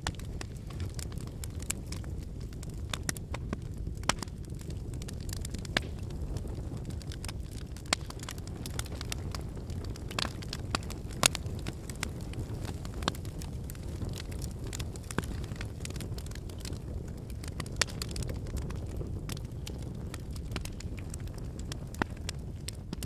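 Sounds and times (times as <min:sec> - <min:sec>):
campfire flames rustling: 0:00.0 - 0:23.0
firewood popping and crackling: 0:00.0 - 0:23.0.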